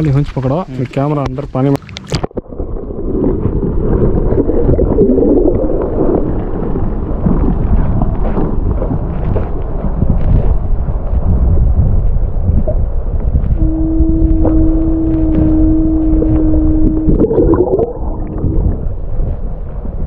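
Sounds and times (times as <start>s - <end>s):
muffled underwater rumble and gurgle: 0.0s - 20.0s.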